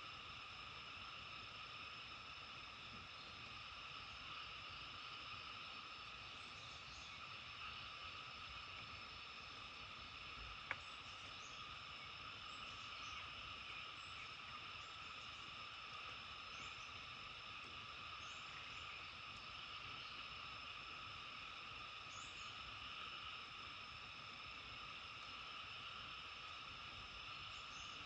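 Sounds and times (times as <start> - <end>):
chorus of frogs: 0.0 - 28.0.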